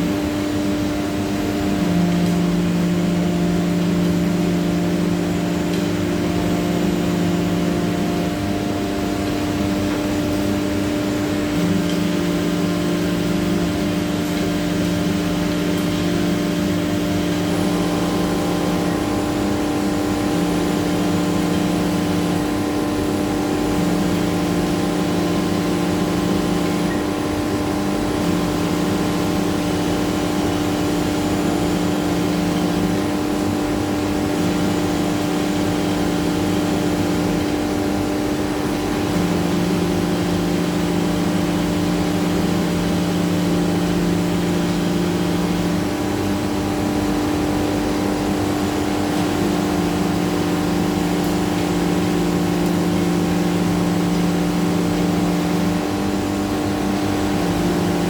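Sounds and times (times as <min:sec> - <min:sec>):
cnc router spindle whine: 0:00.0 - 0:58.0
lower machine hum: 0:00.0 - 0:58.0.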